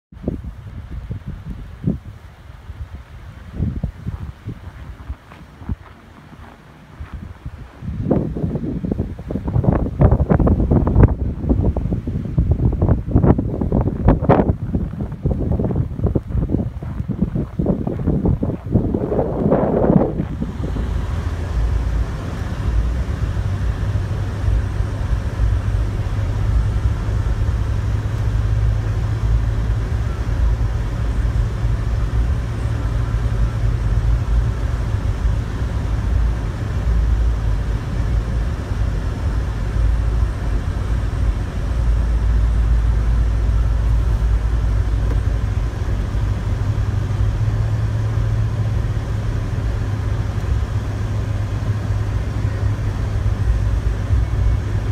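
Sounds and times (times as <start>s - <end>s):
vehicle engine and tyres rumbling: 0.0s - 54.9s.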